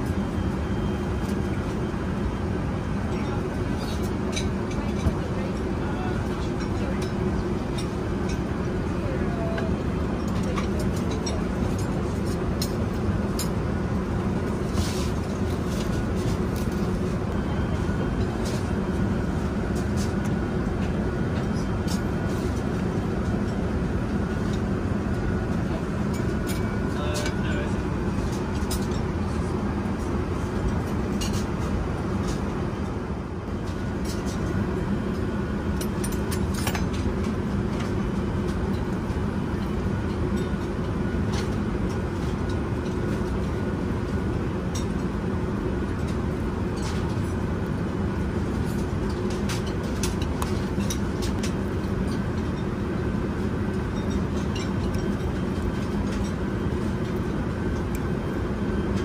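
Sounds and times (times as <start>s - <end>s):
aircraft engine rumble and hiss: 0.0s - 59.0s.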